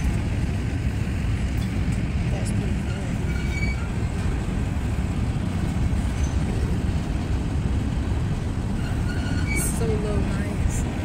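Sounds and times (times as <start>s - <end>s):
freight train cars rumbling past: 0.0s - 11.0s.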